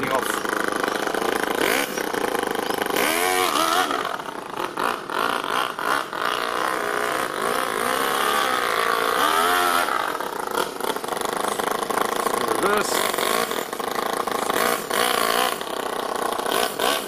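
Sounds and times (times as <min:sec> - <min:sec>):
nitro engine revving: 0:00.0 - 0:17.0.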